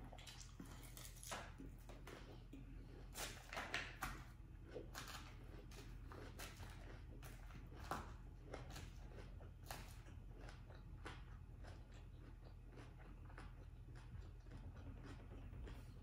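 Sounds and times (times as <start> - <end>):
chewing: 0.0 - 16.0
low steady hum: 0.0 - 16.0.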